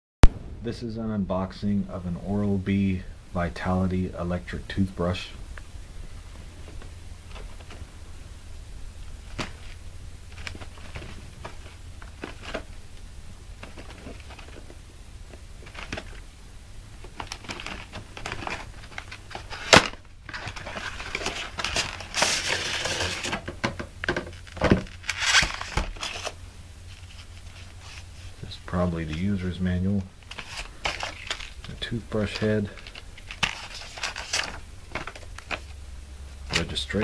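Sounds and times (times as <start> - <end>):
packaging rustling and crinkling: 3.6 - 37.0.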